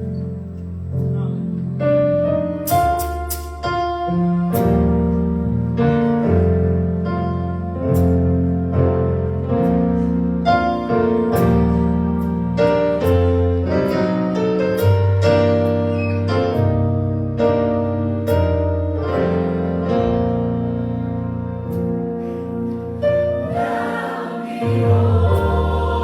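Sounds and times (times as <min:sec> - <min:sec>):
piano keyboard chords: 0:00.0 - 0:26.0.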